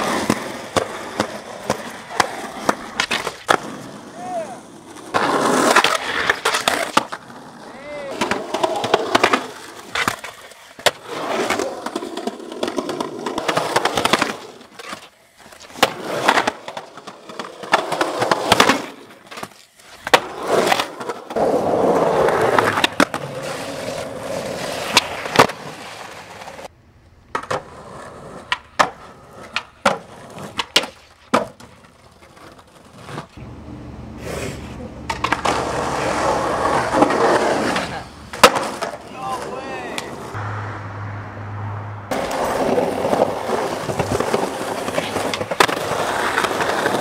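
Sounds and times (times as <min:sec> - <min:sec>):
skateboard clacking on ground: 0:00.0 - 0:33.4, 0:35.0 - 0:40.4, 0:42.1 - 0:47.0
skateboard wheels rolling: 0:00.0 - 0:40.4, 0:42.1 - 0:47.0.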